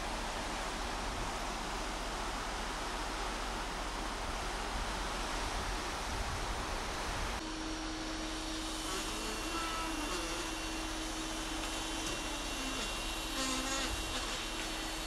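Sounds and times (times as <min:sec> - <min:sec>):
ship's churning wake: 0:00.0 - 0:15.0
steady hum: 0:00.0 - 0:15.0.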